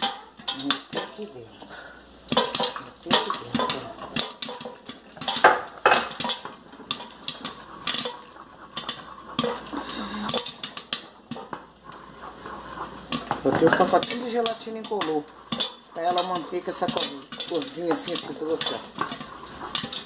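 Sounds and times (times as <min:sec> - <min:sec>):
wooden spoon scraping a metal pot: 0:00.0 - 0:20.0.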